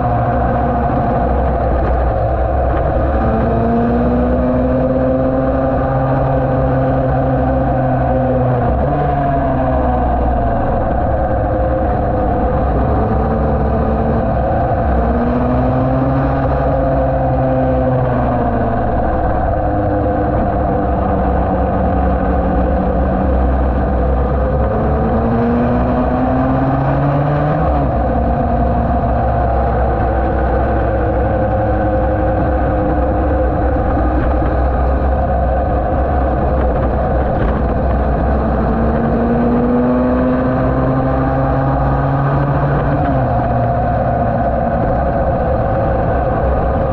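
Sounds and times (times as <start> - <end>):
racing motorcycle engine revving: 0.0 - 46.9.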